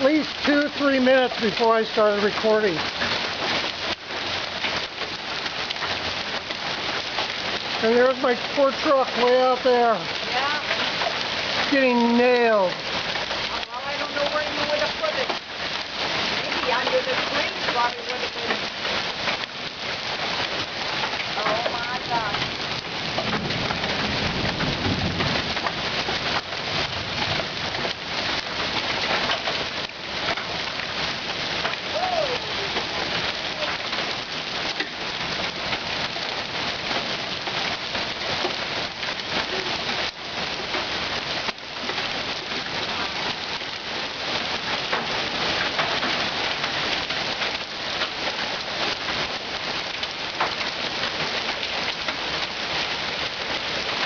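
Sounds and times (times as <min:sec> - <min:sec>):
hail and rain pelting down: 0:00.0 - 0:54.0.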